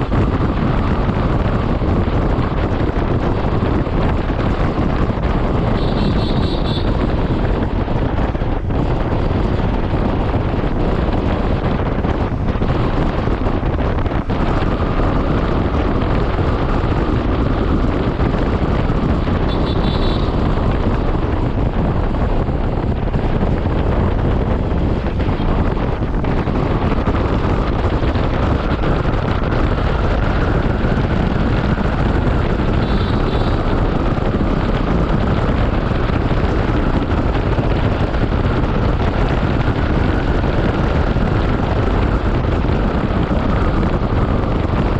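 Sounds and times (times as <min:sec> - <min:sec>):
wind rush on microphone: 0:00.0 - 0:44.9.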